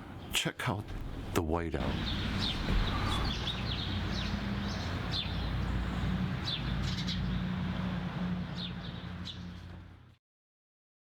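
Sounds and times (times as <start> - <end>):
small birds chirping: 0.0 - 10.2
low hum: 1.0 - 10.1.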